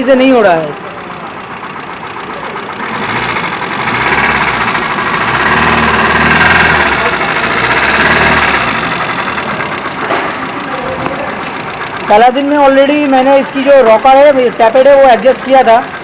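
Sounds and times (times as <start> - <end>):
engine valvetrain noise: 0.0 - 16.0
petrol engine running: 0.0 - 16.0.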